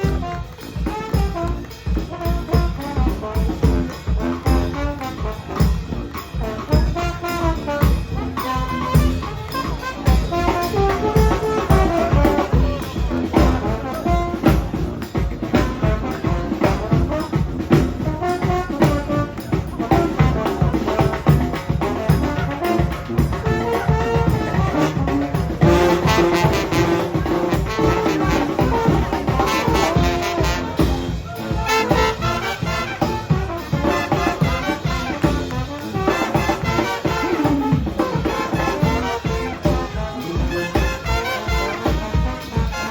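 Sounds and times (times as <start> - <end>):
steady drum beat: 0.0 - 42.9
trumpets and trombones playing melody: 0.0 - 42.9.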